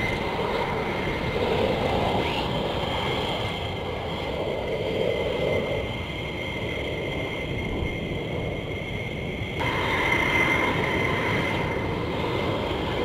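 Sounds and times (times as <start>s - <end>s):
jet engine rumble and whine: 0.0s - 13.0s.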